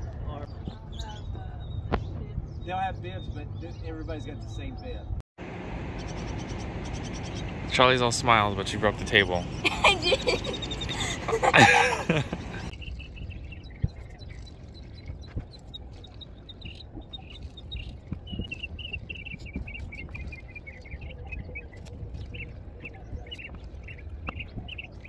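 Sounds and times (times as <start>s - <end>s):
low outdoor rumble: 0.0s - 25.0s
small birds chirping: 0.3s - 25.0s.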